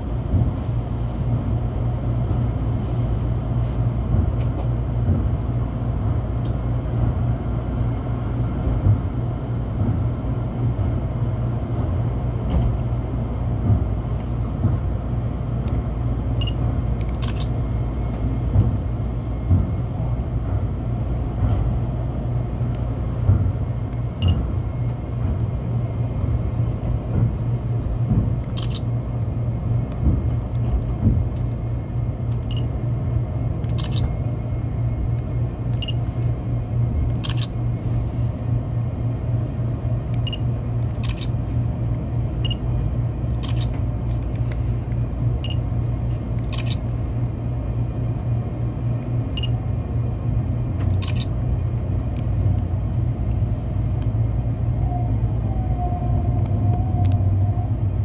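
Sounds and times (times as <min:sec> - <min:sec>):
train interior rumble: 0:00.0 - 0:58.0.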